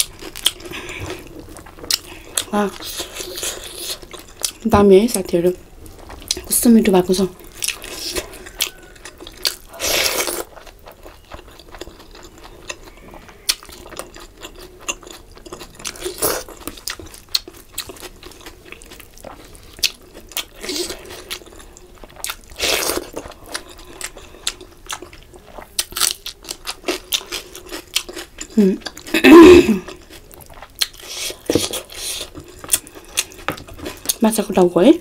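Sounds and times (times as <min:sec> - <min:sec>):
wet chewing and squishing: 0:00.0 - 0:05.2, 0:05.8 - 0:34.2.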